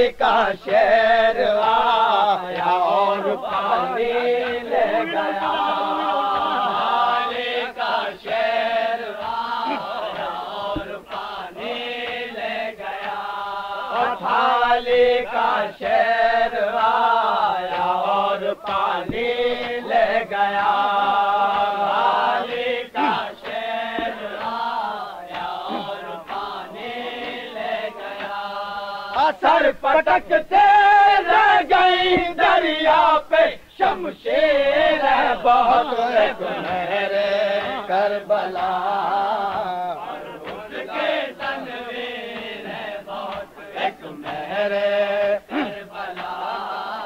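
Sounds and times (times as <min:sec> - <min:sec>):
men chanting without instruments: 0:00.0 - 0:47.0.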